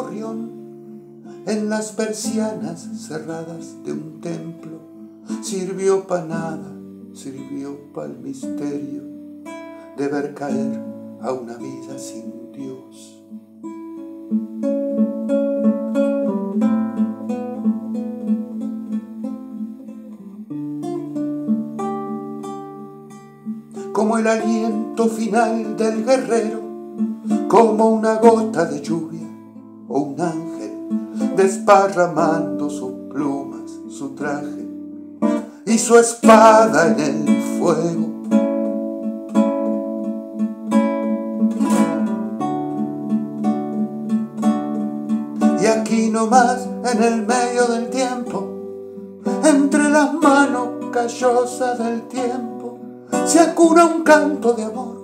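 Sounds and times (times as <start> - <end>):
solo acoustic guitar: 0.0 - 55.0.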